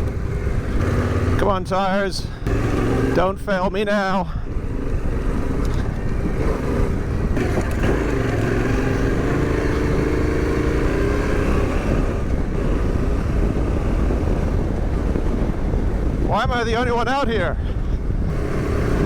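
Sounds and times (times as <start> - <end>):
motorcycle engine at low revs: 0.0 - 16.9, 17.5 - 19.0.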